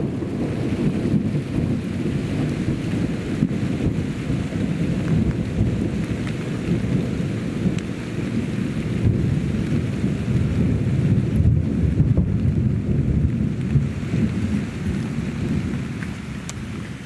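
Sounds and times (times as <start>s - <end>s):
rain falling: 0.0s - 17.0s
thunder rumbling: 0.0s - 17.0s.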